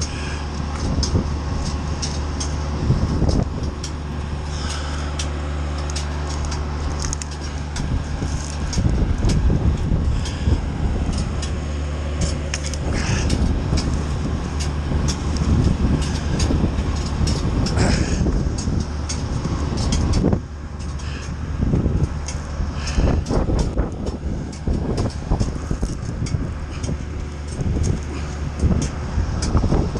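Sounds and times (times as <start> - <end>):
branches cracking and snapping: 0.0 - 29.6
engine drone: 0.0 - 29.9
wood chipper running: 0.0 - 29.9.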